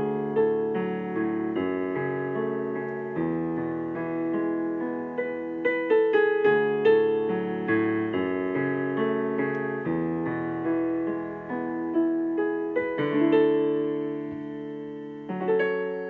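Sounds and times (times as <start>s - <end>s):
solo piano playing: 0.0s - 16.0s.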